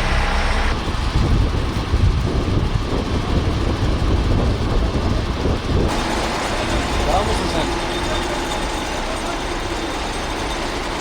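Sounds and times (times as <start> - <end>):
heavy vehicle engine rumble: 0.0 - 11.0.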